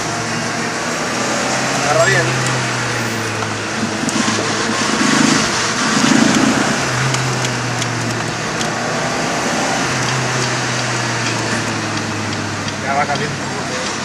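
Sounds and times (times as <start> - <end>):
car engine running under load: 0.0 - 14.0
road and wind noise: 0.0 - 14.0.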